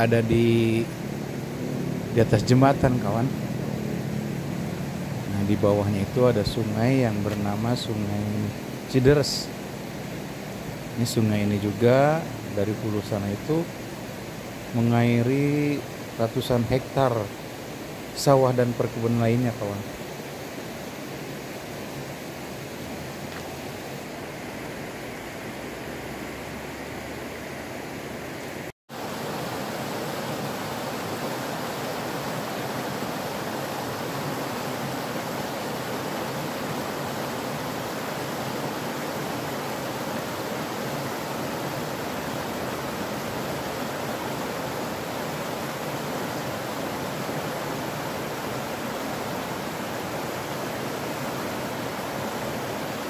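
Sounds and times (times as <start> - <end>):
river rushing over stones: 0.0 - 53.0.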